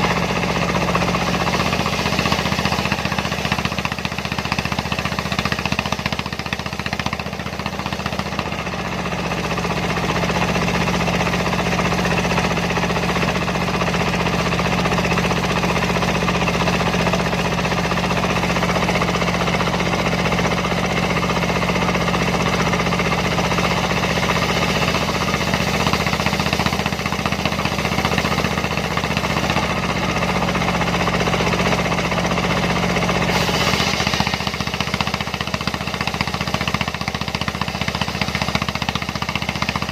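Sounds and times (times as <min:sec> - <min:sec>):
circular saw cutting log: 0:00.0 - 0:39.9
diesel engine drone: 0:00.0 - 0:39.9.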